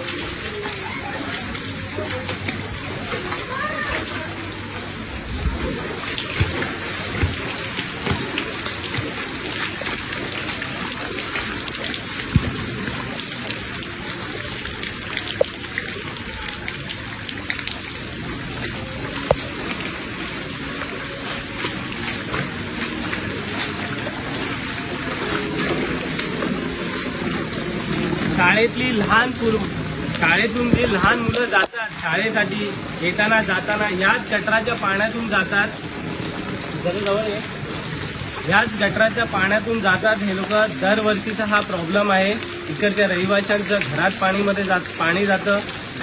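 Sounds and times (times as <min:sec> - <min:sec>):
rain falling on water: 0:00.0 - 0:46.0.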